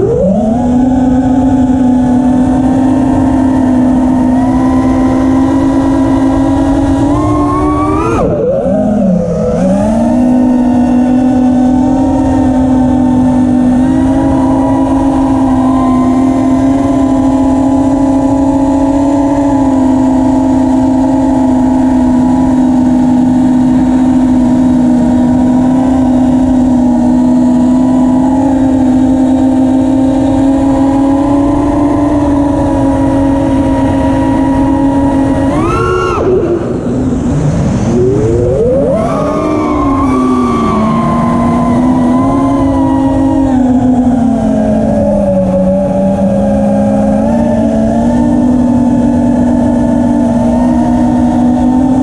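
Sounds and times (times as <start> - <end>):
quadcopter motors whining: 0.0 - 52.0.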